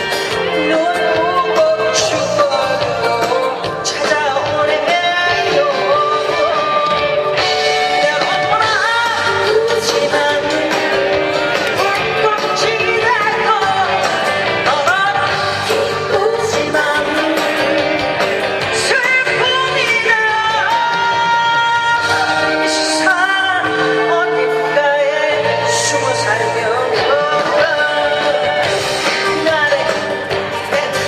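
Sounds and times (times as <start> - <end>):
live band playing: 0.0 - 31.0
woman singing with vibrato: 0.0 - 31.0.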